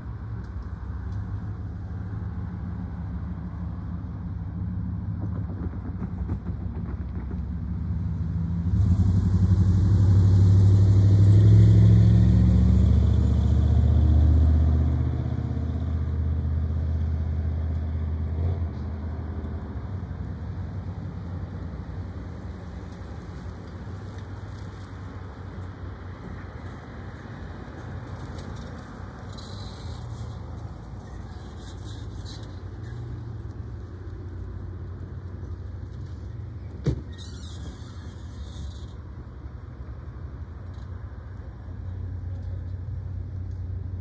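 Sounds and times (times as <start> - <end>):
diesel locomotive engine rumbling: 0.0 - 44.0
road vehicle passing: 0.0 - 44.0.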